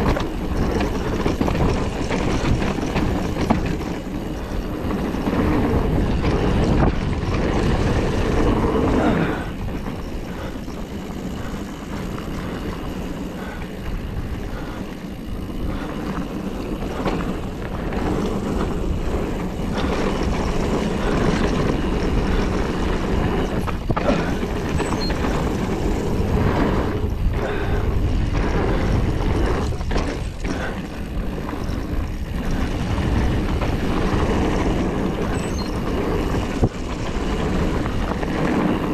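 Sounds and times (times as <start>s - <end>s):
bike clattering over bumps: 0.0s - 38.9s
tyres on loose dirt: 0.0s - 38.9s
wind rushing over microphone: 0.0s - 38.9s.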